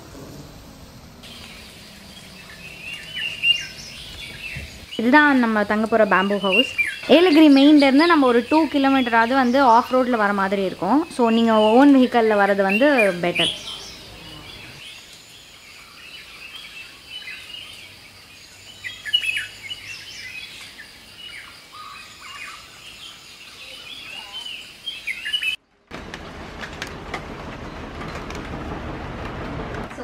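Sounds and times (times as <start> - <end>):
steady room noise hiss: 0.0 - 30.0
wild birds chirping: 0.6 - 28.3.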